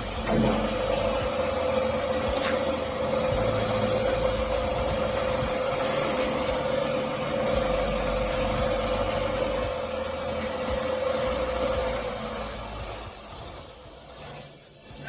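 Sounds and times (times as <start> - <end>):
metal lathe whine: 0.0 - 15.0.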